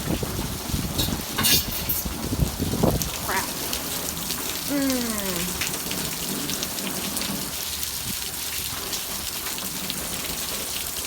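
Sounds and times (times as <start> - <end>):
heavy rain splattering: 0.0 - 11.0
raindrops ticking: 2.0 - 11.0.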